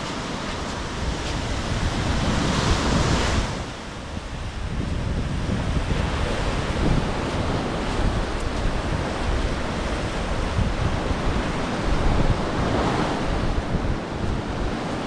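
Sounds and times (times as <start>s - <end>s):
surf: 0.0s - 15.0s
wind buffeting microphone: 0.0s - 15.0s.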